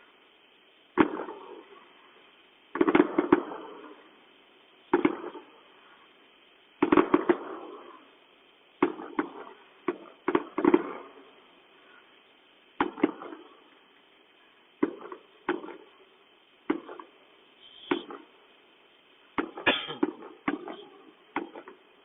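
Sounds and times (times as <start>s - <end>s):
fireworks bangs: 0.9s - 12.1s, 12.7s - 18.6s, 19.2s - 22.0s.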